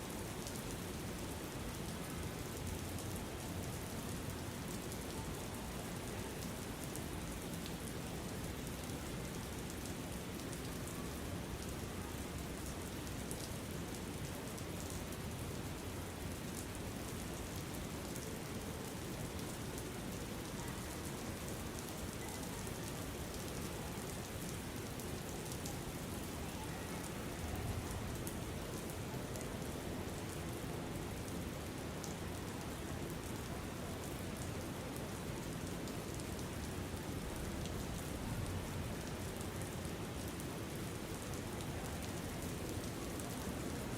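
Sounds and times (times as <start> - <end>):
rain hiss: 0.1 - 43.9
faint raindrop ticks: 1.5 - 43.9.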